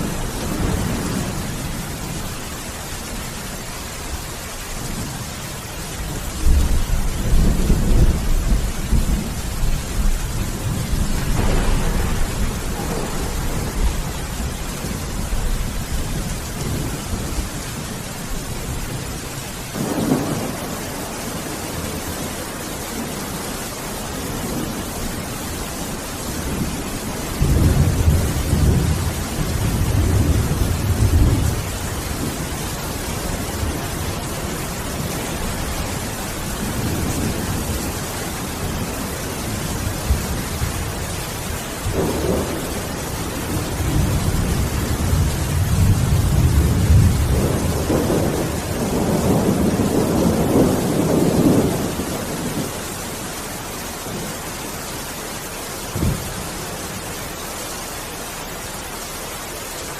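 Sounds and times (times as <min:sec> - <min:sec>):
thunder rumbling: 0:00.0 - 0:55.1, 0:55.8 - 0:57.4
steady rain: 0:00.0 - 0:59.9.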